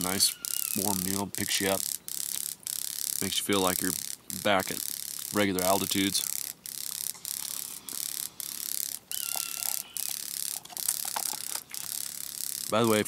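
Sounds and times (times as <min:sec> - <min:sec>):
grasshopper wings crackling: 0:00.0 - 0:13.0.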